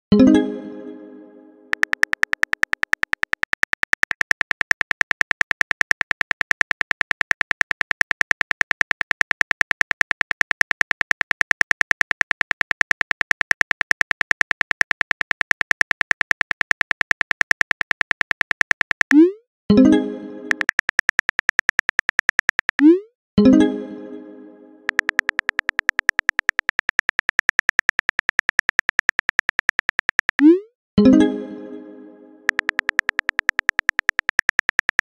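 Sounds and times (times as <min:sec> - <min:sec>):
keyboard typing clicks: 0:01.7 - 0:19.4, 0:20.5 - 0:23.0, 0:24.9 - 0:30.6, 0:32.5 - 0:35.0.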